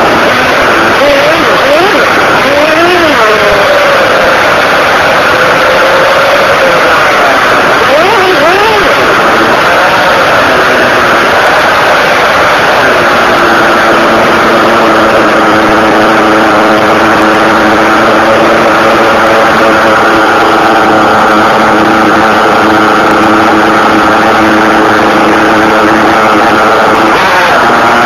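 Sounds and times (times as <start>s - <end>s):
nitro engine running hard: 0.0s - 28.0s.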